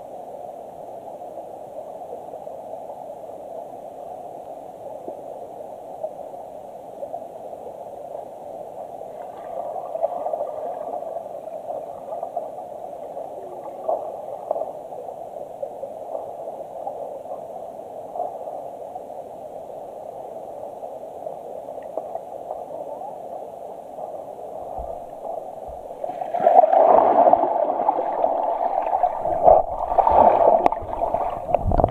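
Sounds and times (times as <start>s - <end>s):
muffled underwater stream hiss: 0.0s - 31.9s.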